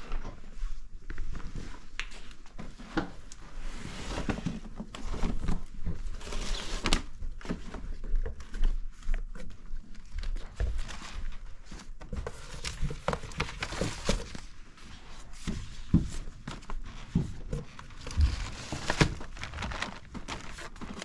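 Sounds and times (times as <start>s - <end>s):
items rustling and crinkling: 0.0s - 21.0s.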